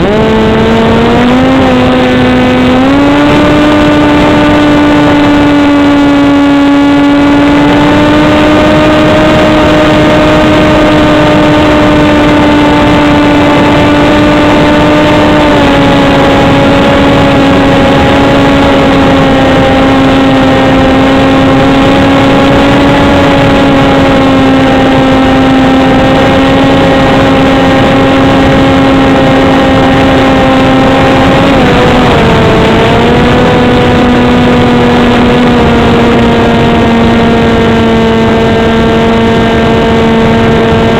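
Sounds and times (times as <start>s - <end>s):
model plane motor and propeller drone: 0.0s - 40.9s
wind rushing over microphone: 0.0s - 40.9s.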